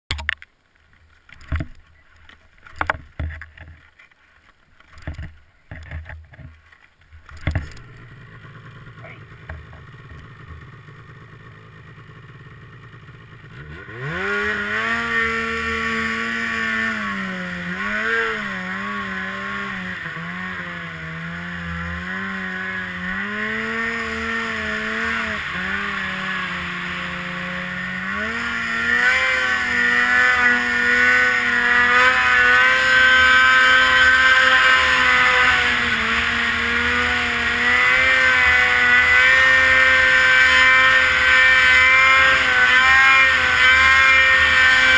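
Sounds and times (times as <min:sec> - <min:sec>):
snowmobile engine revving: 0:07.5 - 0:44.9.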